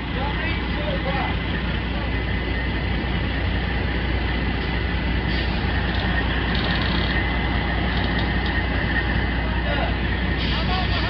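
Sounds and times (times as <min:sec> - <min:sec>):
heavy machine engine under load: 0:00.0 - 0:11.0.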